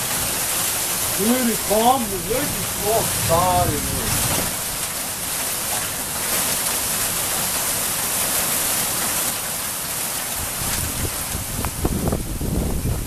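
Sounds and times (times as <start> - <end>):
hail and rain falling: 0.0 - 13.0.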